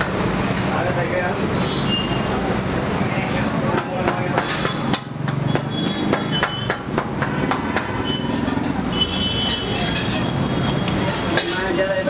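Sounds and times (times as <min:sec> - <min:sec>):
kitchen activity: 0:00.0 - 0:12.0
traffic rumble: 0:00.0 - 0:12.0.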